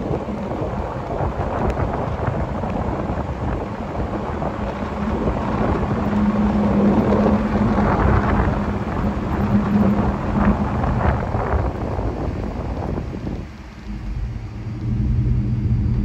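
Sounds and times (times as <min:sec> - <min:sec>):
low hum: 0:00.0 - 0:16.0
wind buffeting microphone: 0:00.0 - 0:16.0.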